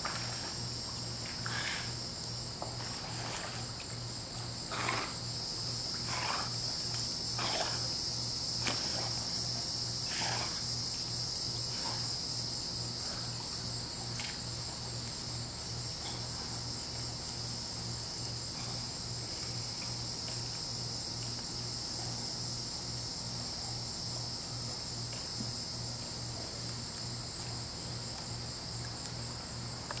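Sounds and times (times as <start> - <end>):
insect chorus drone: 0.0 - 30.0.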